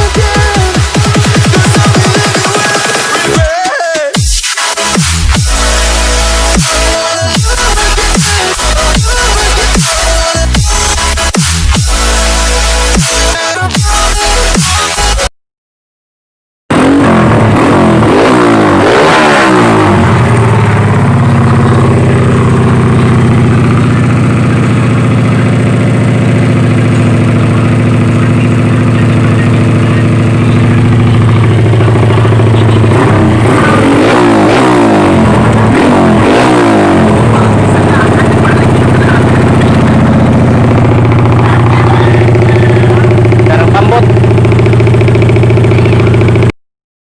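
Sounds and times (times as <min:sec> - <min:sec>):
motorcycle engine revving: 0:00.0 - 0:03.5, 0:04.7 - 0:15.3, 0:16.7 - 0:46.6.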